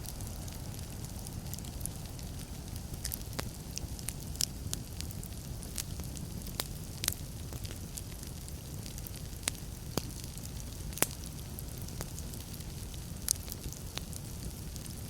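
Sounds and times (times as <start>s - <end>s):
fire rumbling: 0.0s - 15.0s
wood fire crackling and popping: 0.0s - 15.0s.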